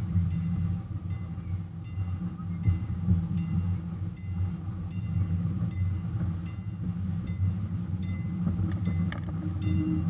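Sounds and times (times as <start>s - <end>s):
locomotive engine humming: 0.0s - 10.0s
train bell ringing: 0.2s - 10.0s.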